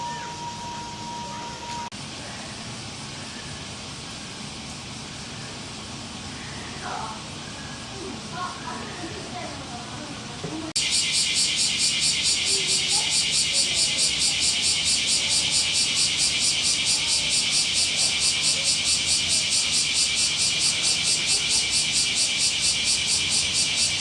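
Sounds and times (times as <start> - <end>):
cicadas rasping chorus: 0.0 - 9.9, 10.7 - 24.0.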